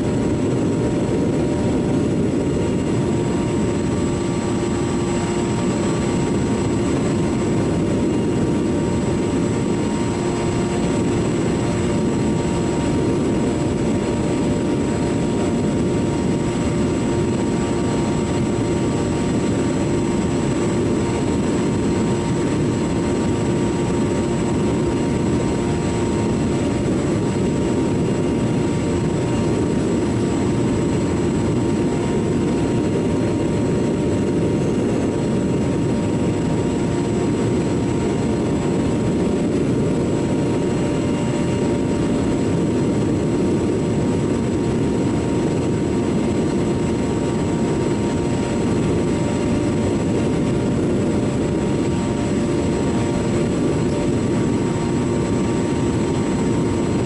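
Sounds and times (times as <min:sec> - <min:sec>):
model airplane motor droning: 0:00.0 - 0:57.0
rushing wind: 0:00.0 - 0:57.0.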